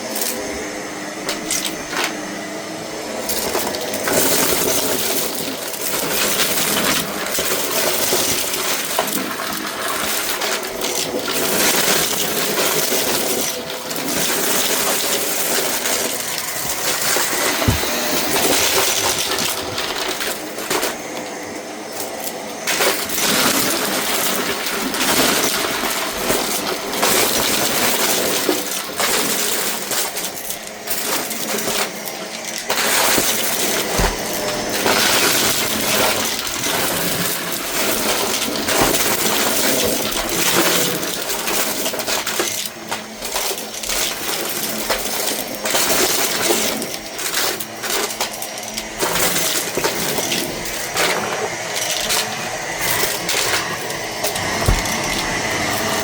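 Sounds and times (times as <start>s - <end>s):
vacuum cleaner running over a rug: 0.0s - 56.0s
debris rattling through vacuum: 3.2s - 30.2s, 30.9s - 42.6s, 49.2s - 56.0s.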